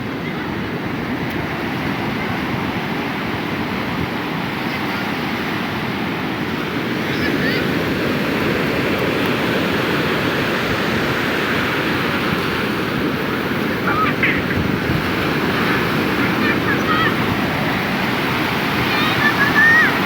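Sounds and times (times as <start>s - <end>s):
sea surf washing onto beach: 0.0s - 20.0s.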